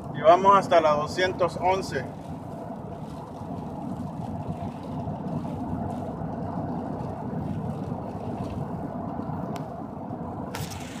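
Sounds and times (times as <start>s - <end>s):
road and engine noise in a cab: 0.0s - 11.0s
tyres on wet pavement: 0.0s - 11.0s.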